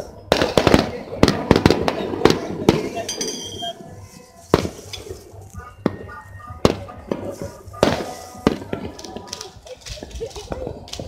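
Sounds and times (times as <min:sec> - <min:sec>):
faint music: 0:00.0 - 0:11.0
faint voices: 0:00.0 - 0:11.0
firecrackers banging: 0:00.0 - 0:11.0.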